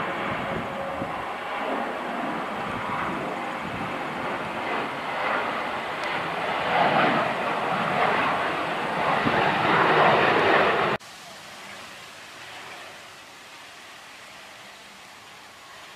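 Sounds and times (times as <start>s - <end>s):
jet engines roaring: 0.0s - 15.9s.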